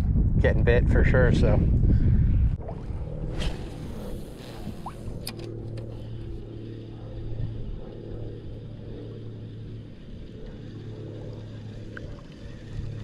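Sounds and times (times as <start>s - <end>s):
motorboat engine humming: 2.4s - 13.0s.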